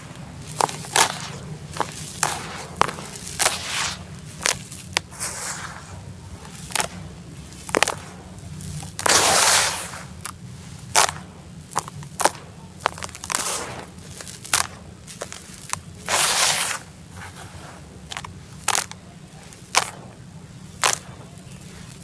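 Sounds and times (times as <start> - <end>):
cement chunks cracking: 0.0 - 22.0.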